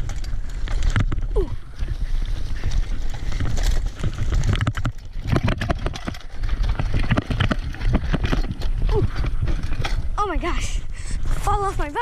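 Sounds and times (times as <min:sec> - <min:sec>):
bicycle clattering over rough trail: 0:00.0 - 0:12.0.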